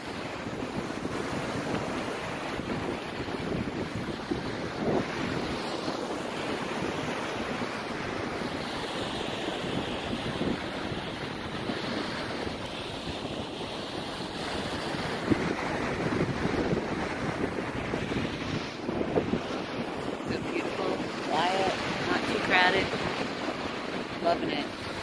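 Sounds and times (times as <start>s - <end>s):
surf washing onto beach: 0.0s - 25.0s
wind buffeting microphone: 0.0s - 25.0s.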